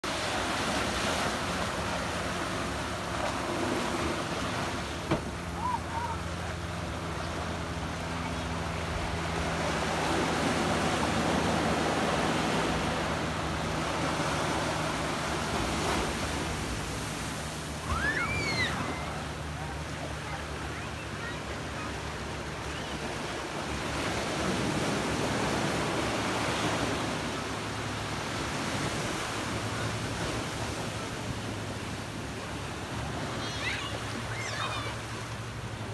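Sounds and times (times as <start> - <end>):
waves washing on beach: 0.0 - 35.9.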